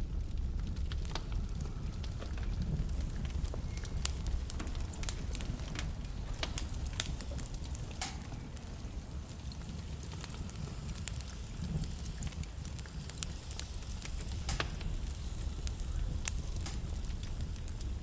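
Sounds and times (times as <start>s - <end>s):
burning logs crackling and popping: 0.0s - 18.0s
fire flames rumbling: 0.0s - 18.0s.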